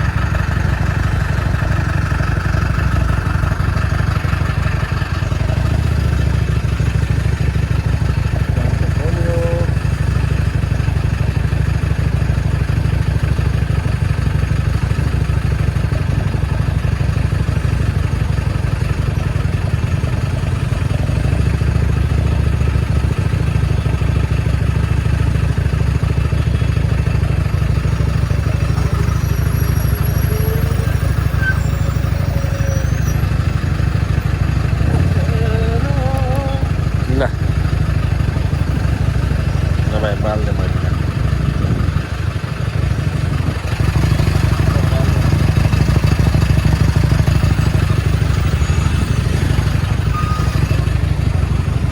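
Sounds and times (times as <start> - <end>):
motorcycle engine: 0.0 - 51.9
road noise: 0.0 - 51.9.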